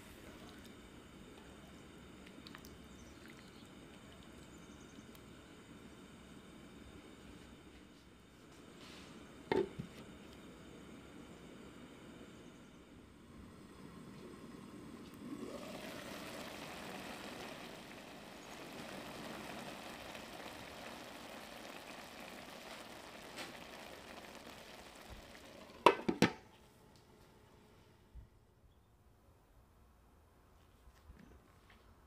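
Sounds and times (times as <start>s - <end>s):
rice simmering in a pan: 0.0s - 27.7s.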